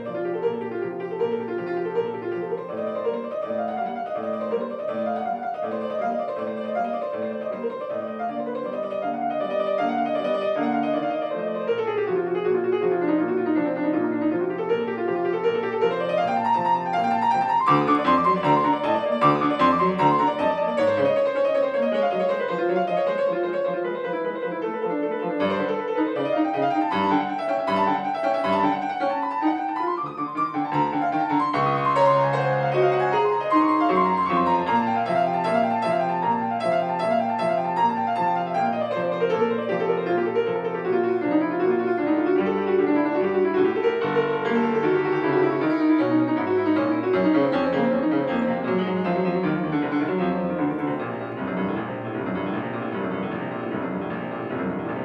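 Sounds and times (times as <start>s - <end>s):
fast piano playing: 0.0s - 55.0s.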